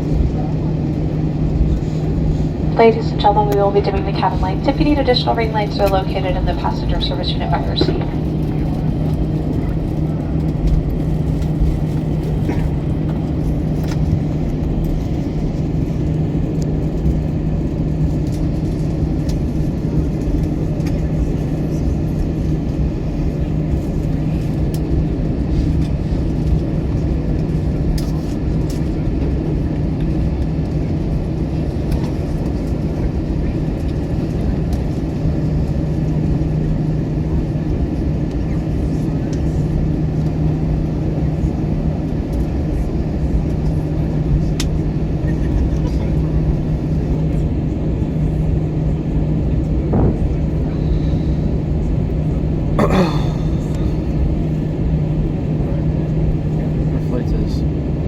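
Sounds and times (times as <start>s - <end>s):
constant low hum: 0.0s - 58.0s
jet engines rumbling in cabin: 0.0s - 58.0s.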